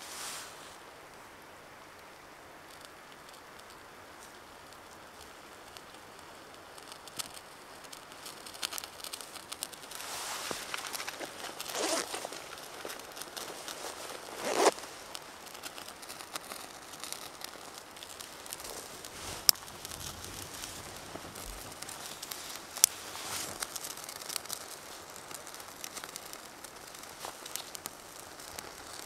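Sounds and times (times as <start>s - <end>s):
twig fire crackling: 0.0s - 29.0s
fire popping: 0.1s - 29.0s
handling rustle: 2.8s - 29.0s.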